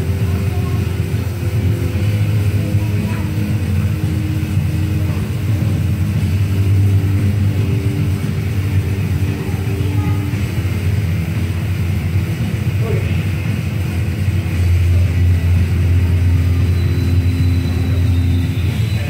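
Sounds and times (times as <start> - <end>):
fan whirring: 0.0 - 19.0.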